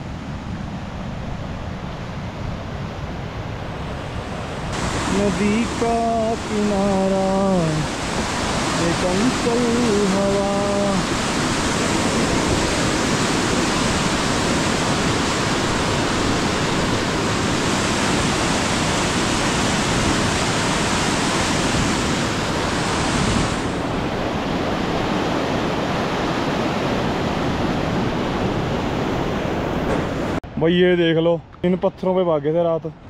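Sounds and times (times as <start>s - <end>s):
river rushing over boulders: 0.3s - 30.4s.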